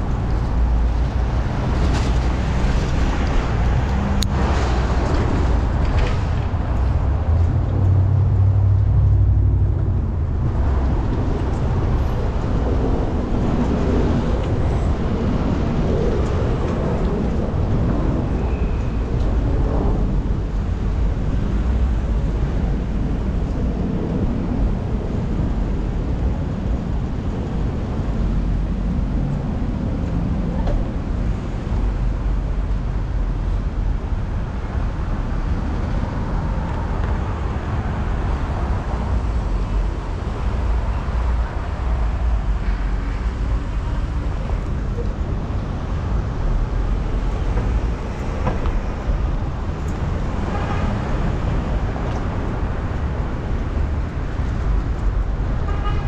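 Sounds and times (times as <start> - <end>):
low rumble of street traffic: 0.0 - 56.0.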